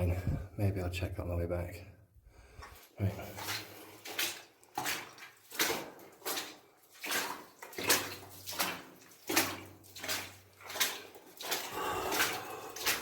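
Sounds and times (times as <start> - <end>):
footsteps splashing through water: 2.5 - 13.0.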